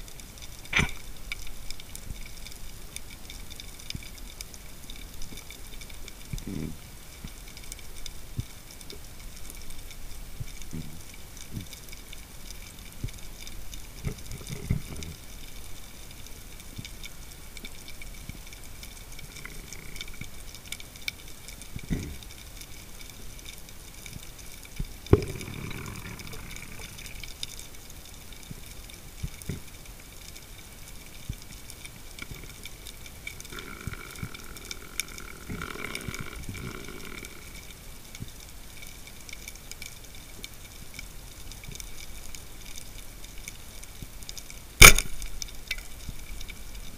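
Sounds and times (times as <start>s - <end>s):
faint underwater hiss: 0.0s - 46.9s
small clicks: 0.0s - 46.9s.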